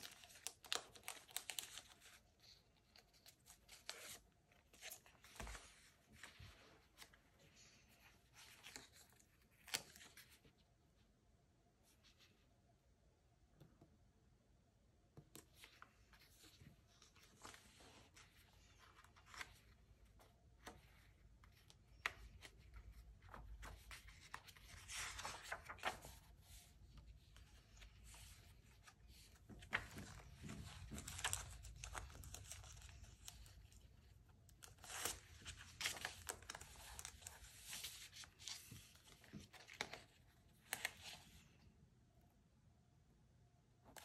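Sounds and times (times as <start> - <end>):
paper handling: 0.0 - 10.6, 15.4 - 41.3.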